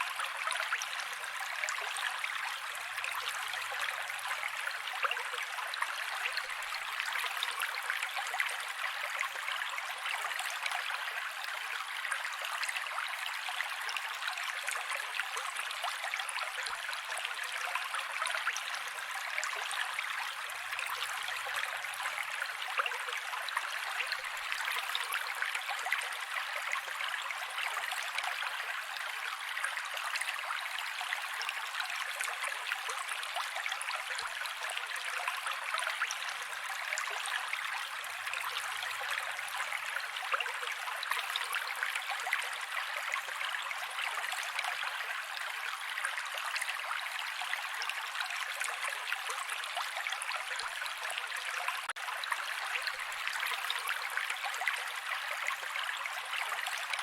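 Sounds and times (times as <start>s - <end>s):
creek water running over rocks: 0.0s - 57.0s.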